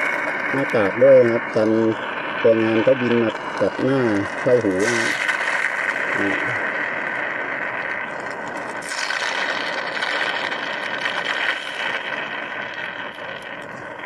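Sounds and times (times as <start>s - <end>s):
honey slurping suction: 0.0s - 7.2s, 8.0s - 12.6s
vacuum pump motor hiss: 0.0s - 12.6s.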